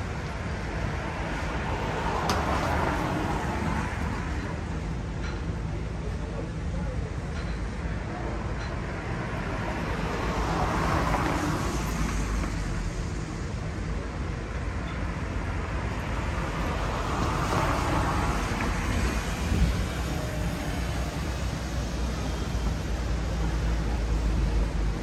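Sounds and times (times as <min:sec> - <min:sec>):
low traffic rumble: 0:00.0 - 0:25.0
vehicles passing: 0:00.0 - 0:25.0.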